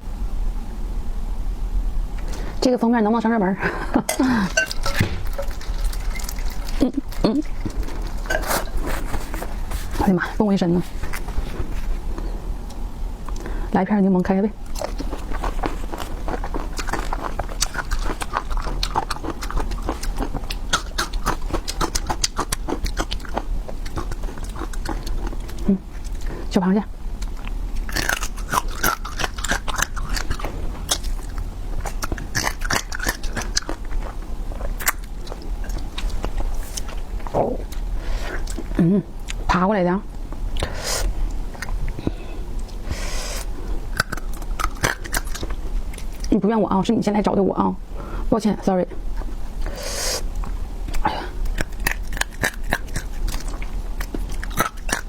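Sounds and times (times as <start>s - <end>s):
mouth chewing and crunching: 3.7s - 13.6s, 14.6s - 46.4s, 49.0s - 55.0s.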